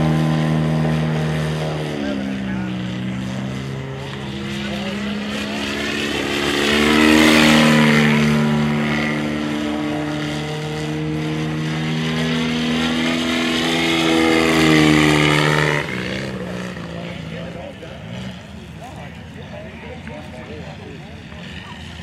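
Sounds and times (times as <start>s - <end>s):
model plane engine passing: 0.0s - 22.0s.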